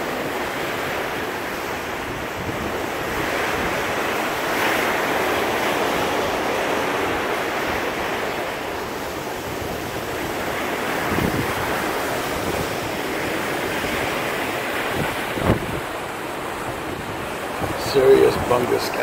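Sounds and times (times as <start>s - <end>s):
sea water rushing: 0.0s - 19.0s
wind buffeting microphone: 0.0s - 19.0s.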